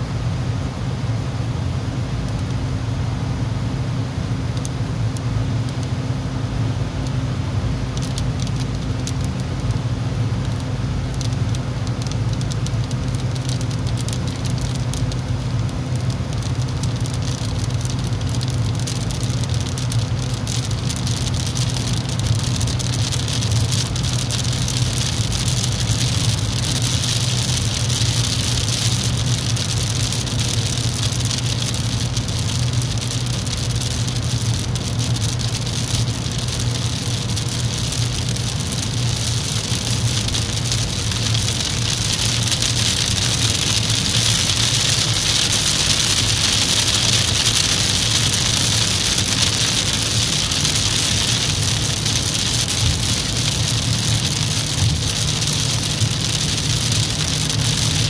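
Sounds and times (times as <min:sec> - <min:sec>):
rain pattering on windscreen: 0:02.2 - 0:02.6, 0:04.1 - 0:58.0.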